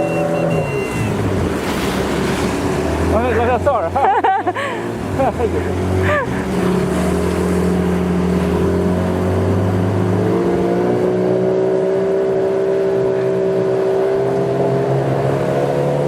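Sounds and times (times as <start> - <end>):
boat motor running: 0.0 - 16.0.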